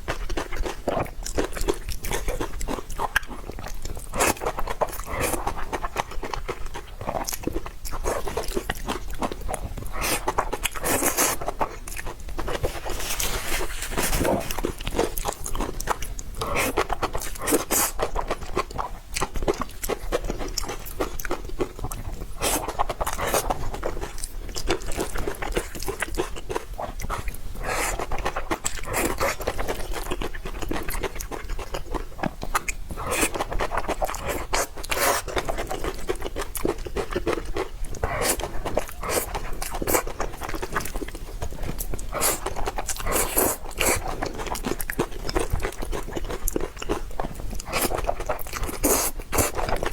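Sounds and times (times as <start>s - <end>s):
chewing and crunching noodles: 0.0s - 49.9s
wet mouth sounds: 0.1s - 49.9s.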